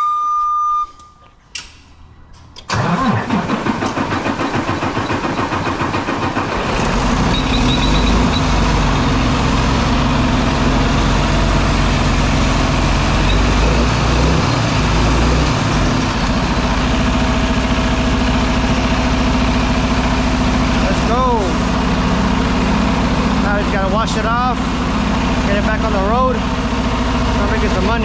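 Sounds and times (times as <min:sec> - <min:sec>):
diesel engine cranking and idling: 0:01.6 - 0:28.0.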